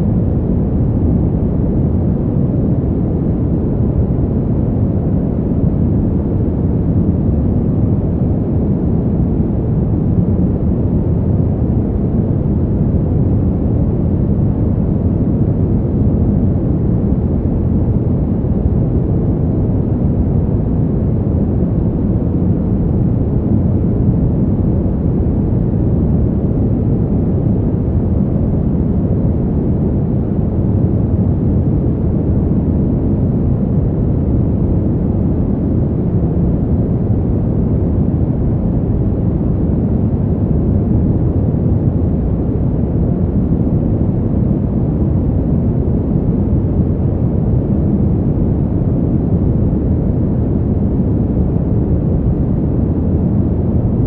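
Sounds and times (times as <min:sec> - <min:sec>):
deep rushing wind: 0:00.0 - 0:54.0.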